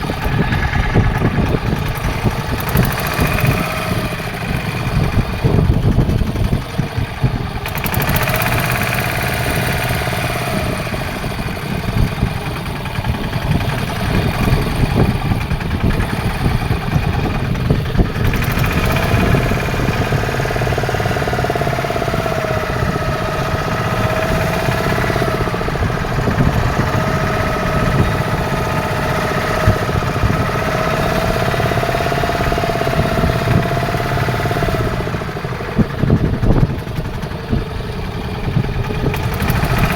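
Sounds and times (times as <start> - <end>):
boat engine running: 0.0 - 39.9
wavering engine whine: 0.0 - 39.9.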